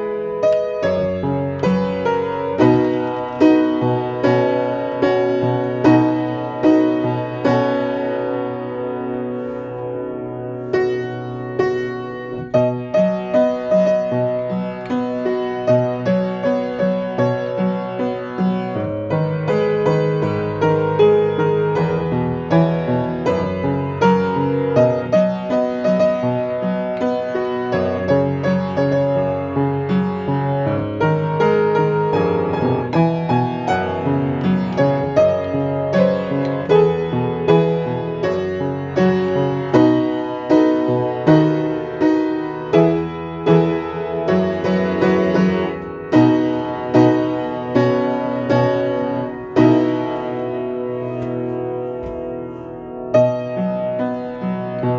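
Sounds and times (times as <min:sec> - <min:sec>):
slow piano melody: 0:00.0 - 0:54.9.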